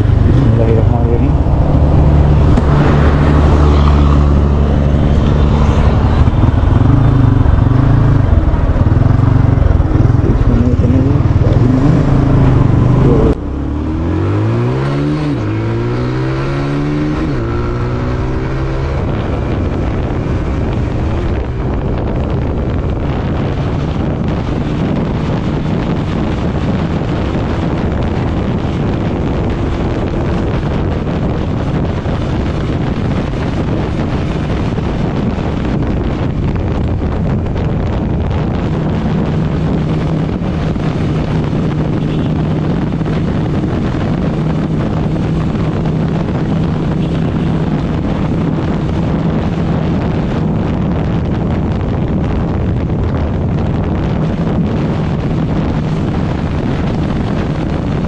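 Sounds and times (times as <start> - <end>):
motorcycle engine at high revs: 0.0 - 58.0
wind noise on microphone: 0.0 - 58.0.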